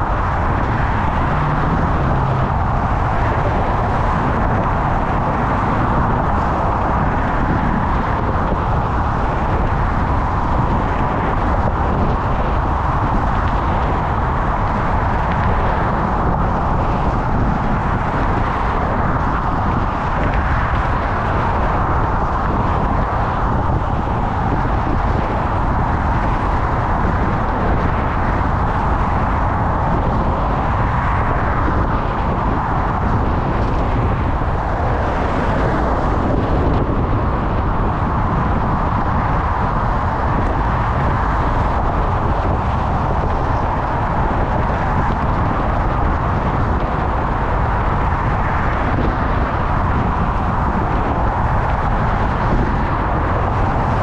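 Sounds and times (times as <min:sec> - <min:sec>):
road traffic: 0:00.0 - 0:54.0
wind rushing over microphone: 0:00.0 - 0:54.0.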